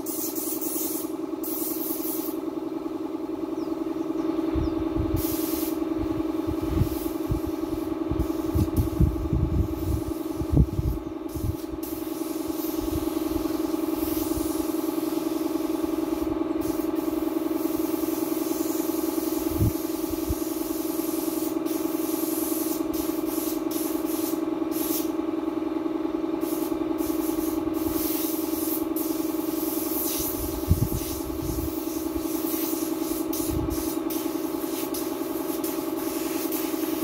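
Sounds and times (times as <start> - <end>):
spray gun hissing in spurts: 0.0 - 2.5, 5.1 - 25.2, 26.4 - 37.0
air compressor humming: 0.0 - 37.0.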